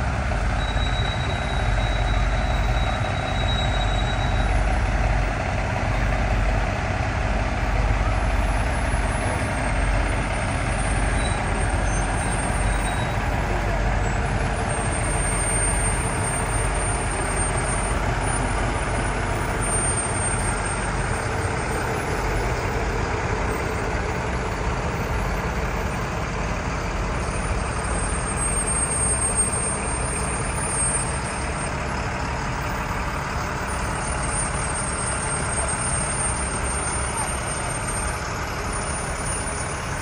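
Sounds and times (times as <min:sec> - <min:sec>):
heavy vehicle engine rumbling: 0:00.0 - 0:40.0.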